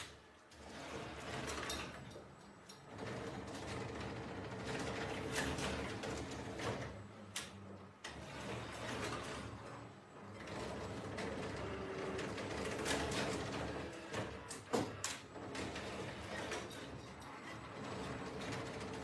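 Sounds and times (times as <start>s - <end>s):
atm mechanism whirring and rattling: 0.0s - 19.0s.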